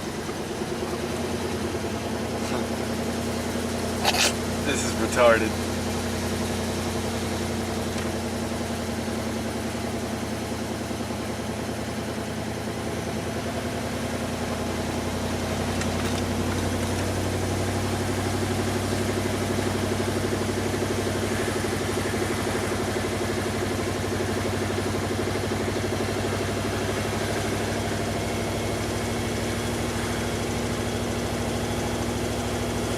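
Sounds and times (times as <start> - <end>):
vehicle engine running at low revs: 0.0 - 32.9.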